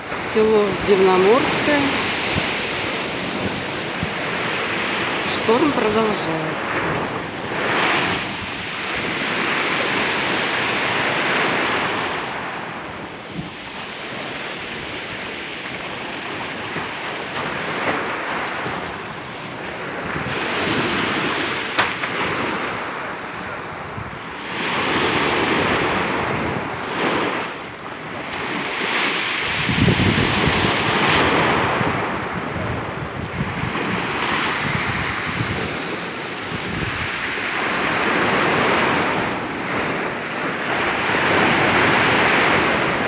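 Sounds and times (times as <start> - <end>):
heavy waves breaking ashore: 0.0 - 43.0.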